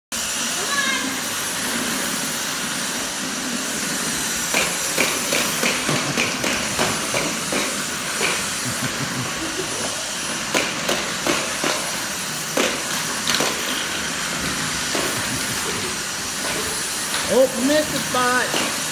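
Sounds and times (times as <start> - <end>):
stick vacuum hissing: 0.2 - 18.9.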